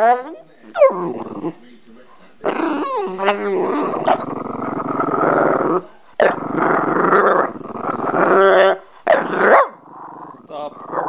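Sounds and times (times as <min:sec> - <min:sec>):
dog growling: 0:00.0 - 0:01.7, 0:02.4 - 0:11.0.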